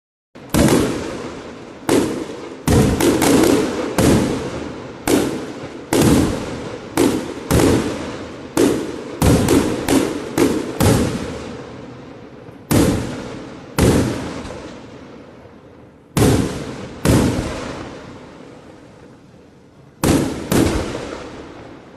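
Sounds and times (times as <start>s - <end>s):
fireworks bangs echoing: 0.4s - 21.9s.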